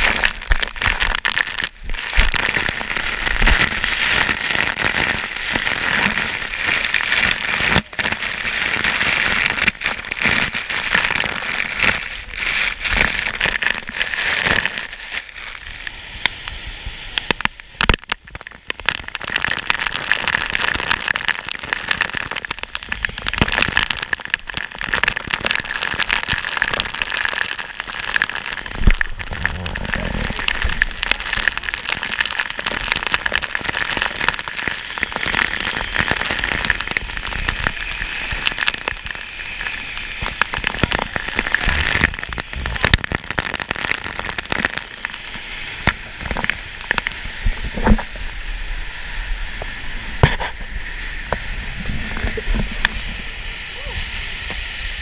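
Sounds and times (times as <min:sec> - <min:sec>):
waterfall spray hitting camera: 0:00.0 - 0:55.0.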